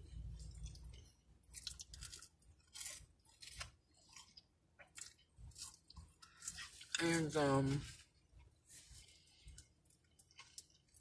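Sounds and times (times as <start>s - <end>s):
person chewing crunchy food: 0.0s - 7.2s, 7.8s - 11.0s.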